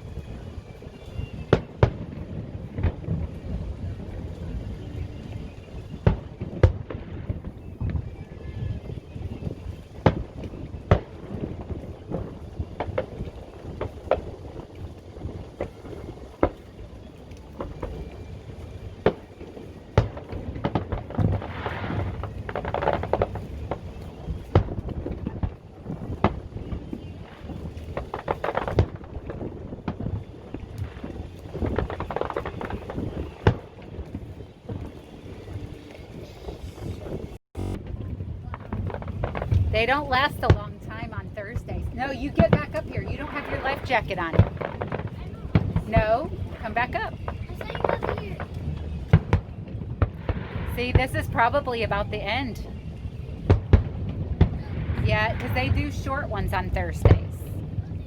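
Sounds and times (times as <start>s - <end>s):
fireworks bangs: 0.0s - 58.0s
wind rumble on microphone: 0.0s - 58.0s.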